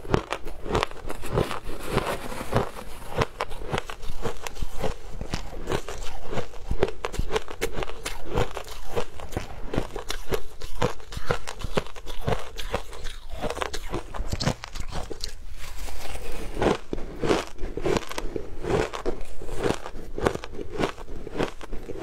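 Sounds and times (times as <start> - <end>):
ice crunching while chewed: 0.0 - 22.0.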